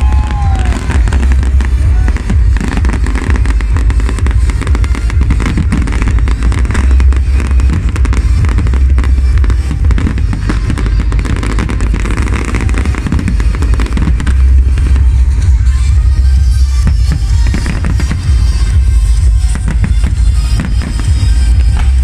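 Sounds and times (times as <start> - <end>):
continuous low rumble: 0.0 - 22.0
fireworks crackling and banging: 0.0 - 22.0.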